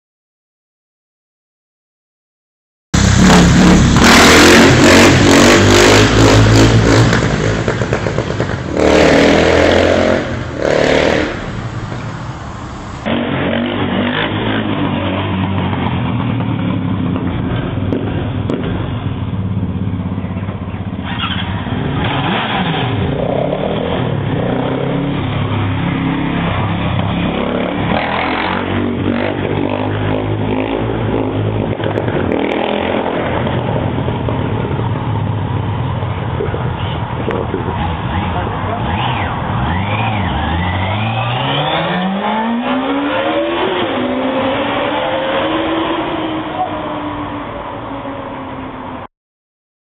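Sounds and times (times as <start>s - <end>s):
motorcycle engine revving: 3.0s - 48.6s.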